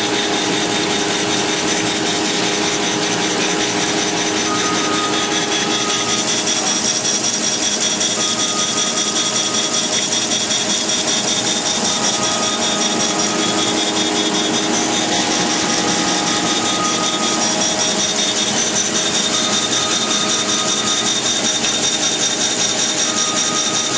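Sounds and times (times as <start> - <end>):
machine hum and whine: 0.0 - 23.9.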